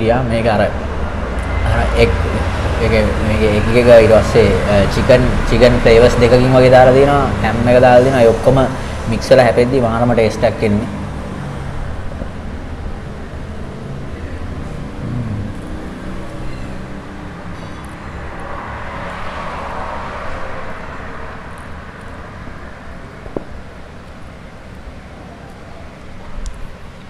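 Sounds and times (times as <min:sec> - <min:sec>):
vehicle passing loudly: 0:00.0 - 0:25.2
rumble of passing traffic: 0:00.0 - 0:27.0.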